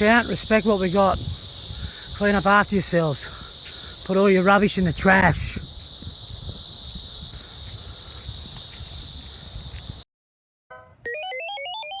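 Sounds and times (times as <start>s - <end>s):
cicada chorus buzzing: 0.0s - 10.0s.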